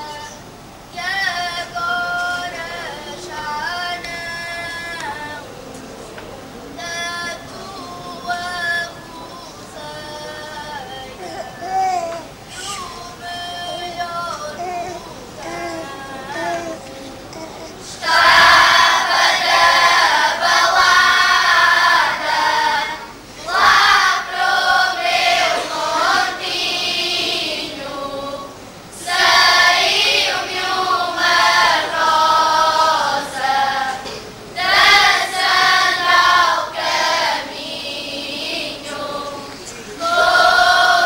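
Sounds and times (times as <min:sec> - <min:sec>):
children's choir singing: 0:00.0 - 0:41.0.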